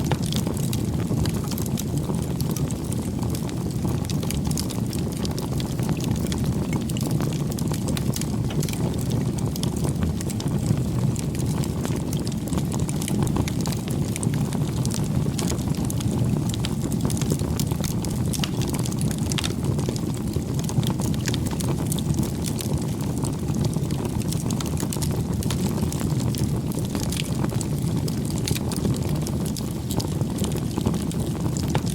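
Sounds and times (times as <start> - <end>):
fire rumbling: 0.0 - 31.9
wood crackling and popping: 0.0 - 31.9.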